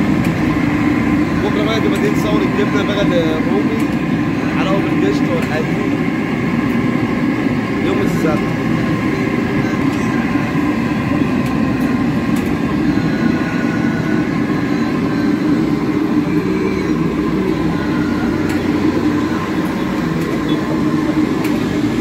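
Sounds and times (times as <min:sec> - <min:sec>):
gas burners roaring: 0:00.0 - 0:22.0.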